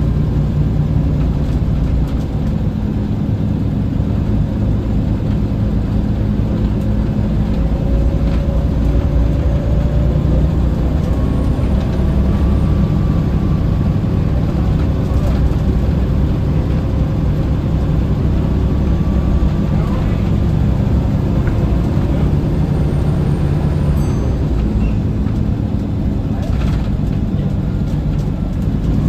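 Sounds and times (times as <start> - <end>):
bus engine drone: 0.0 - 29.0
road noise: 0.0 - 29.0.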